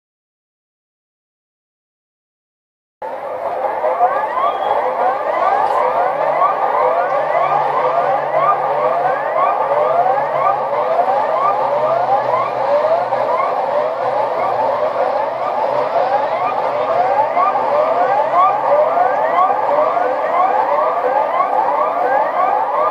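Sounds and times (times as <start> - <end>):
rising electronic alarm sweeps: 3.0 - 22.9.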